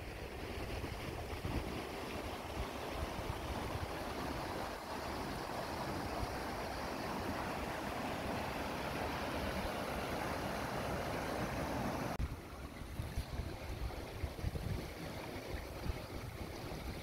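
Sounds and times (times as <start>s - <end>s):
floodwater rushing in ditch: 0.0s - 17.0s.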